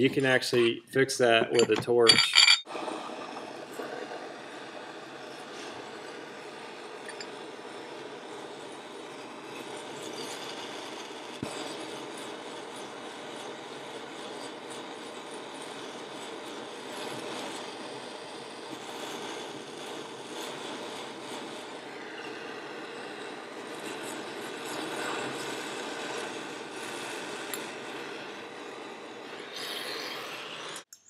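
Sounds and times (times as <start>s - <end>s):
gas torch hissing: 0.0s - 31.0s.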